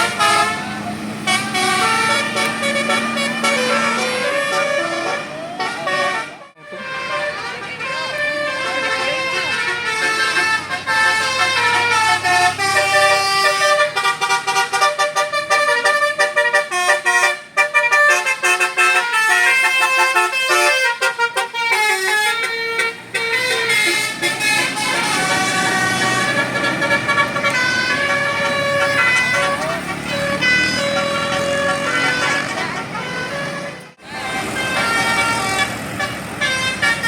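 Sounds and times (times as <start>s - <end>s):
musical air horn melody: 0.0s - 37.0s.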